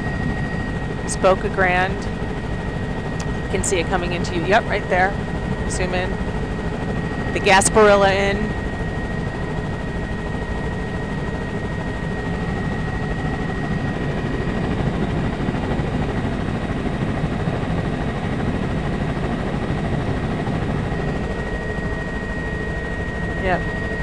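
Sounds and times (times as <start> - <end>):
aircraft cabin engine noise: 0.0 - 24.0.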